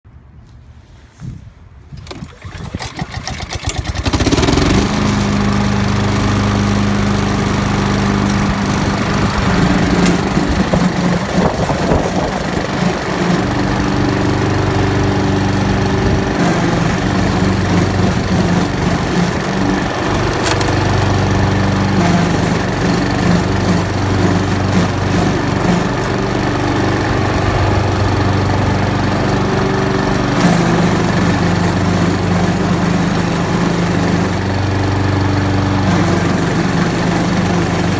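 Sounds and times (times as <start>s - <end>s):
lawn mower engine running: 2.0s - 37.9s
mower drive groaning: 2.0s - 37.9s.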